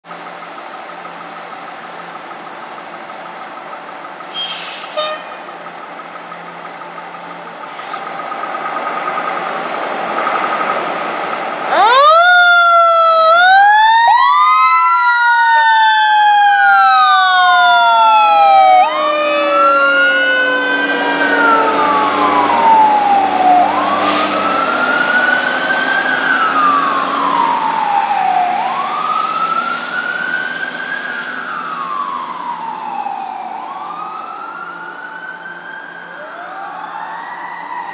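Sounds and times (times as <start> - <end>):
truck engine hum: 0.0 - 36.7
fire engine siren wailing: 3.3 - 37.9.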